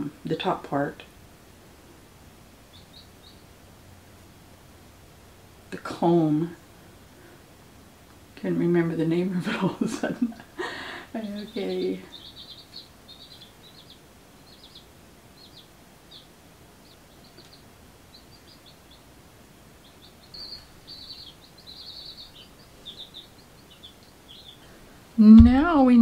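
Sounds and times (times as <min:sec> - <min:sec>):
baby chicks peeping: 0:00.4 - 0:05.9, 0:09.1 - 0:26.0.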